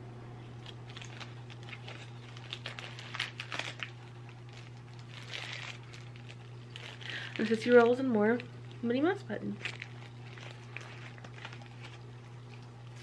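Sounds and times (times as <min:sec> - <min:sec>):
low hum: 0:00.0 - 0:13.0
packaging crinkling: 0:00.5 - 0:13.0.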